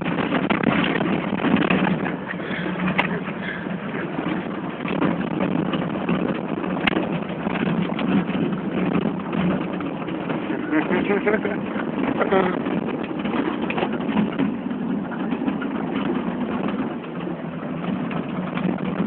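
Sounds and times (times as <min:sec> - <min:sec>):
car engine drone: 0:00.0 - 0:19.0
rattling: 0:00.0 - 0:19.0
tyre noise on rough road: 0:00.0 - 0:19.0.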